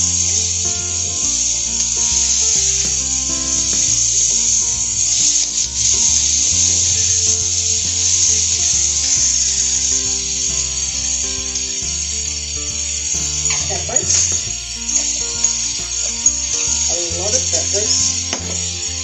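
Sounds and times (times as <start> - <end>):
background music: 0.0 - 19.0
vegetables sizzling in frying pan: 0.0 - 19.0.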